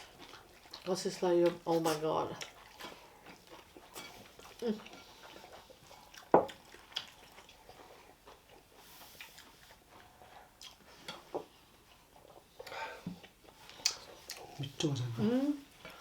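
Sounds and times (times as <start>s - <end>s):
chewing and mouth smacks: 0.0s - 15.1s.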